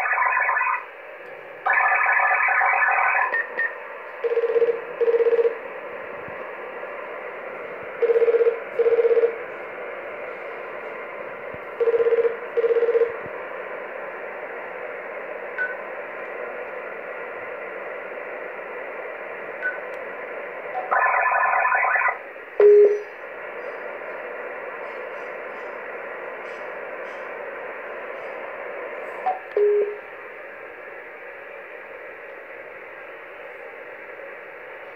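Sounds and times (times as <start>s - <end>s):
radio receiver hiss: 0.0s - 34.9s.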